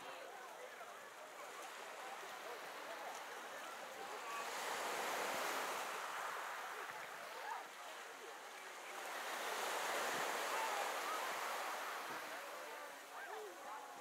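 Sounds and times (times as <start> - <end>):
faint distant voices: 0.0 - 14.0
small waves washing on shore: 0.0 - 14.0.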